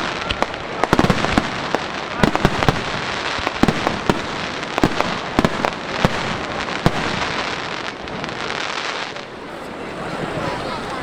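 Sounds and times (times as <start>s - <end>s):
fireworks bangs: 0.0s - 9.4s
fireworks crackling: 0.0s - 9.6s.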